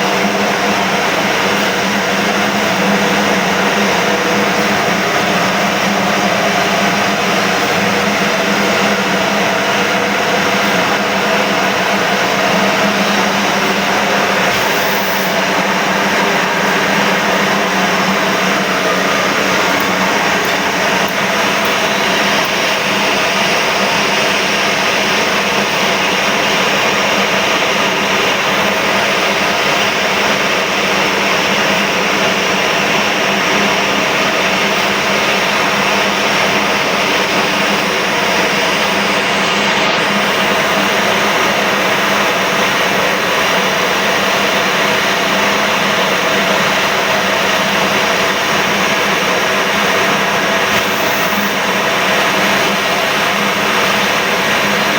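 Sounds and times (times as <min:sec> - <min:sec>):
spice mill whirring: 0:00.0 - 0:54.9.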